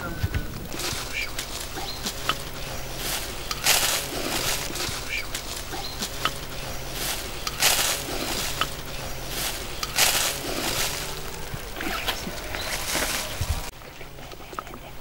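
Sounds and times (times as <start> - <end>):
cloth rustling: 0.5 - 13.7.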